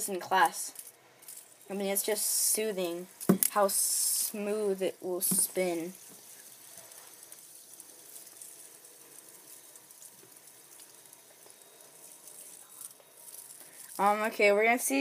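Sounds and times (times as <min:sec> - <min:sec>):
fidget spinner bearing whirring: 0:00.0 - 0:15.0.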